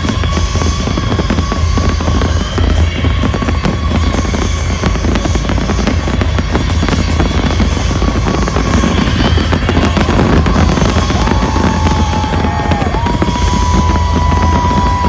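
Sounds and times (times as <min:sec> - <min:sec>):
electronic dance music: 0:00.0 - 0:15.0
fireworks bangs and crackles: 0:00.0 - 0:15.0.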